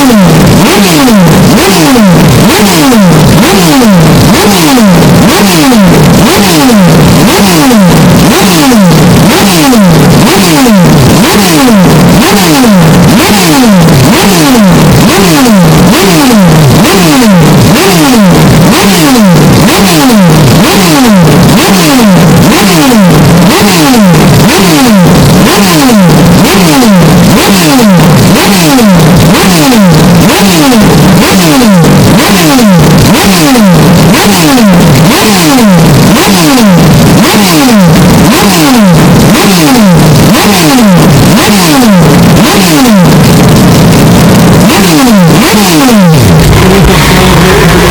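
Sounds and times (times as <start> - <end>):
distorted car engine revving: 0.0 - 47.9.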